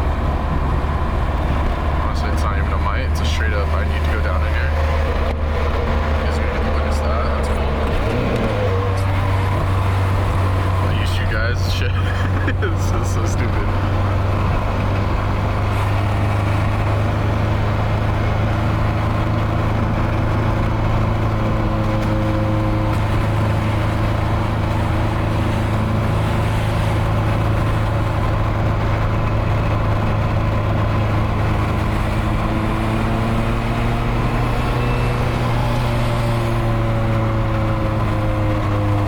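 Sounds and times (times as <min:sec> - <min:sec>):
car engine and leaking exhaust drone: 0:00.0 - 0:39.0.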